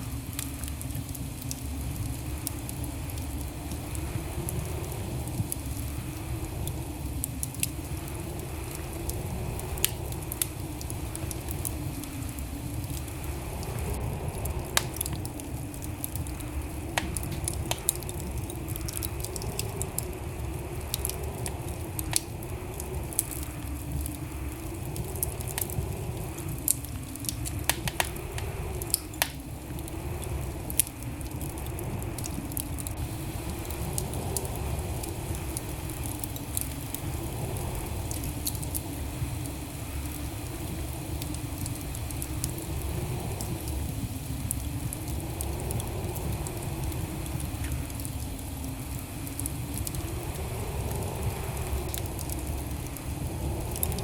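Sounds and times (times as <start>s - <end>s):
fire rumbling and crackling: 0.0s - 54.0s.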